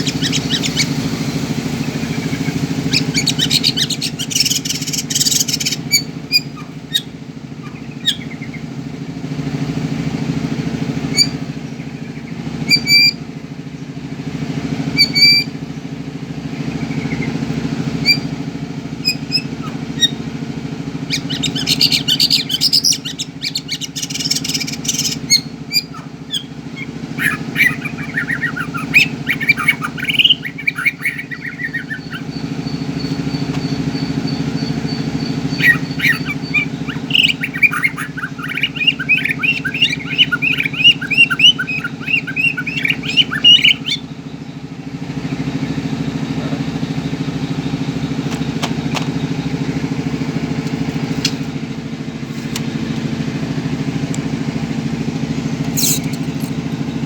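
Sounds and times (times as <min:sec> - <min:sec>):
bird singing chirps and whistles: 0:00.0 - 0:08.8, 0:11.0 - 0:13.3, 0:14.9 - 0:15.6, 0:16.5 - 0:20.3, 0:20.9 - 0:50.3, 0:55.7 - 0:56.6
low engine hum: 0:00.0 - 0:57.0.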